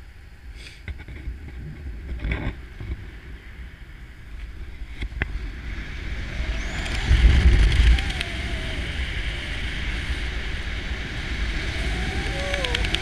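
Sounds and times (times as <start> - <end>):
wind buffeting microphone: 1.0 - 13.0.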